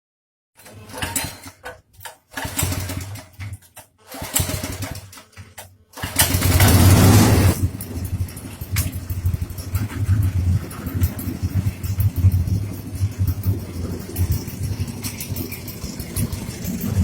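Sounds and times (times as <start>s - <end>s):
small engine driving drum mixer: 0.6s - 17.0s.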